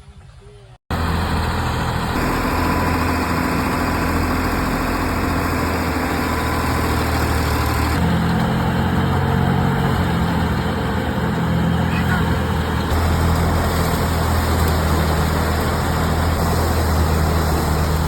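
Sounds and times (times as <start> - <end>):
farm machine engine under load: 0.9 - 18.0.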